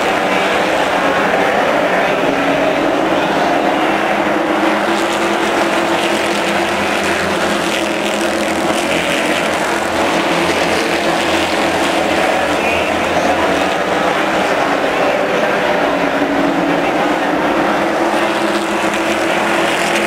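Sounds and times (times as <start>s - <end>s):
race car engines roaring: 0.0s - 20.0s.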